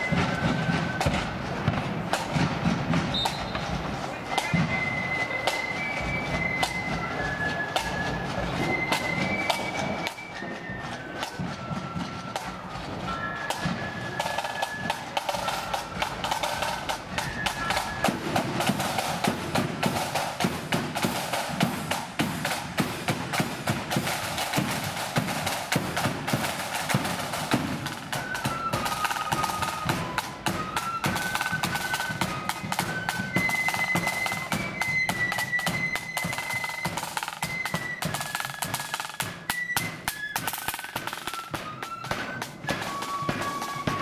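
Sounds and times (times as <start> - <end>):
flute melody: 0.0 - 44.0
side drums: 0.0 - 44.0.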